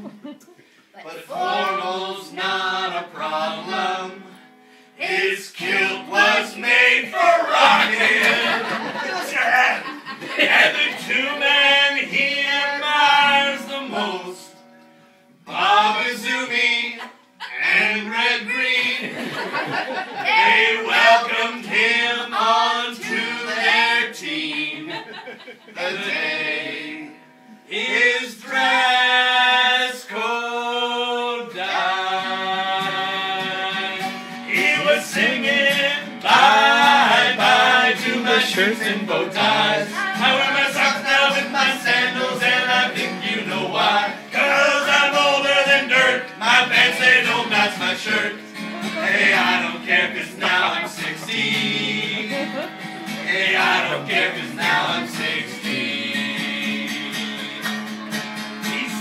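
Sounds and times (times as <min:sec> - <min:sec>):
acoustic guitar: 0:00.0 - 0:59.0
group singing: 0:01.0 - 0:14.5, 0:15.5 - 0:59.0.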